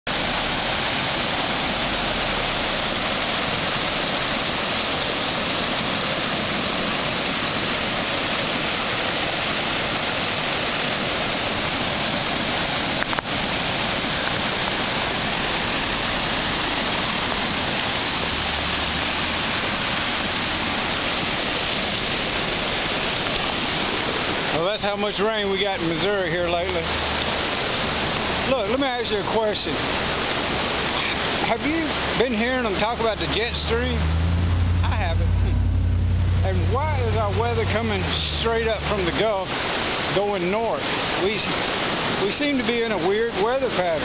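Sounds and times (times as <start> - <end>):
river rushing over a dam: 0.1 - 44.0.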